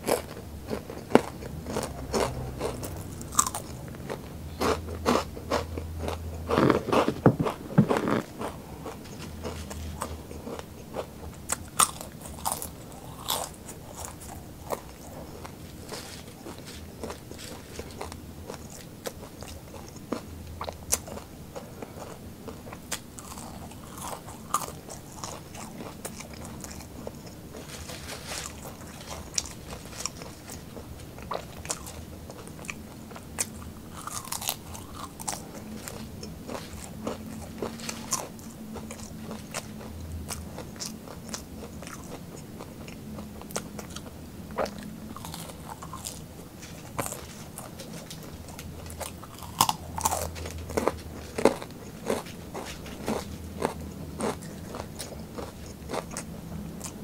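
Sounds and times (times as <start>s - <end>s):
crunching and chewing fries: 0.0s - 57.0s.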